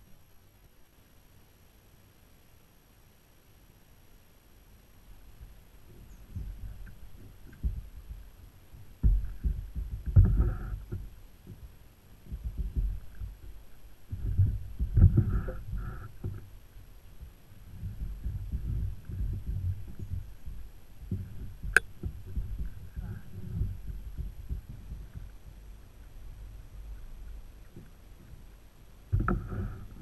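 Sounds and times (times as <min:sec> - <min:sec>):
kayak rumbling and thumping: 0:05.4 - 0:30.0
kayak bumps: 0:05.9 - 0:30.0.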